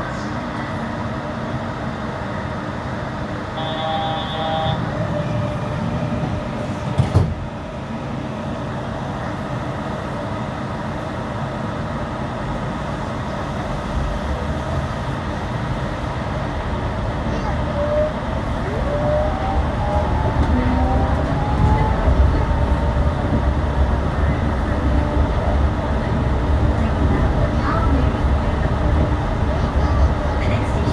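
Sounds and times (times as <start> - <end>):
train running noise: 0.0 - 30.9.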